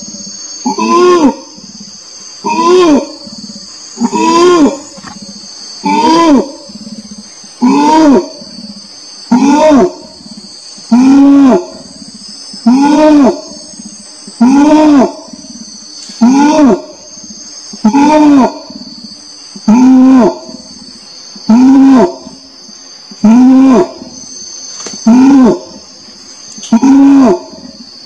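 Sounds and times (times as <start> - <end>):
orangutan deep hooting call: 0.0 - 25.9, 26.6 - 27.9
high insect buzz: 0.0 - 28.0.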